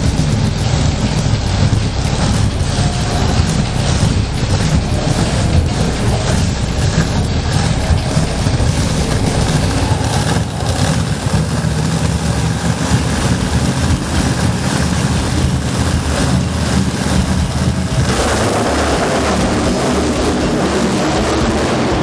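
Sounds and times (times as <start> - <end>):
truck engine idling with echo: 0.0 - 22.0.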